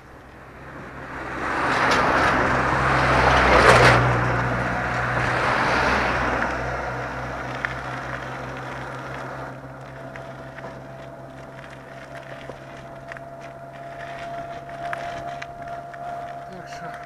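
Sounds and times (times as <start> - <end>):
road vehicle passing: 0.0 - 17.0
steady low hum: 0.0 - 17.0.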